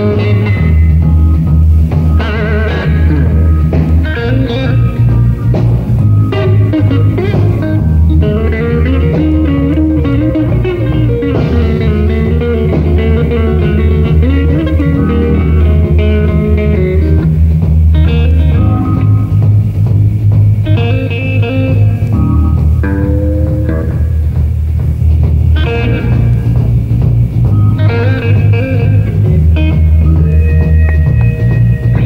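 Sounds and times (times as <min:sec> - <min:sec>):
bass guitar: 0:00.0 - 0:32.0
drums: 0:00.0 - 0:32.0
electric lead guitar bending notes: 0:00.0 - 0:32.0.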